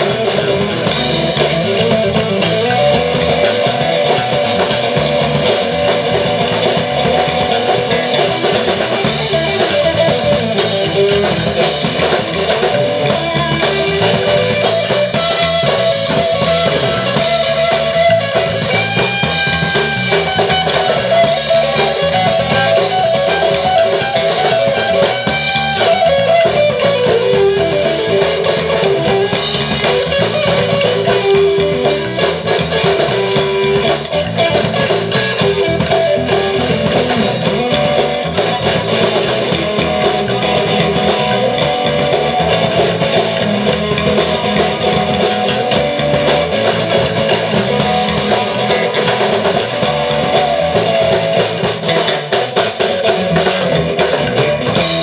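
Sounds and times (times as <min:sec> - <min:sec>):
electric guitar: 0:00.0 - 0:55.0
live rock band playing: 0:00.0 - 0:55.0.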